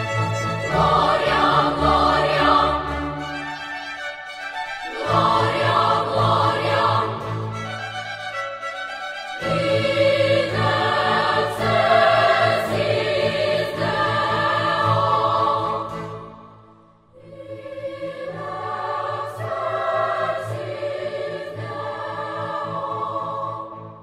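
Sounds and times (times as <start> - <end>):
choir singing sustained chords: 0.0 - 3.7, 4.8 - 7.9, 9.4 - 24.0.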